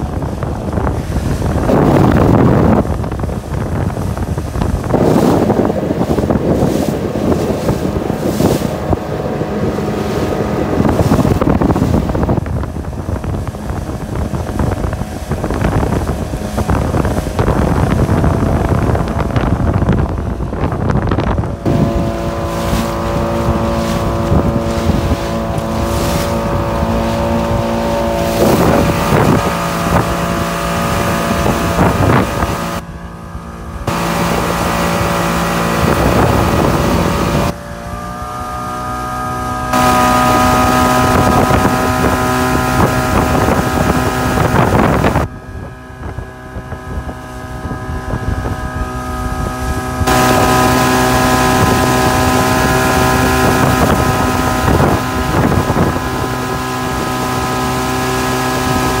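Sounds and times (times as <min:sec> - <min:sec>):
outboard motor running: 0:00.0 - 0:59.0
water rushing: 0:00.0 - 0:59.0
wind buffeting microphone: 0:00.0 - 0:59.0.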